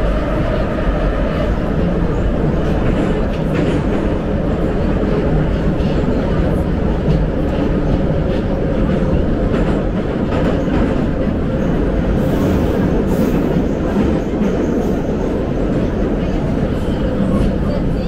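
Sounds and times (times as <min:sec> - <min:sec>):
metro train wheels rumbling on rails: 0:00.0 - 0:18.0.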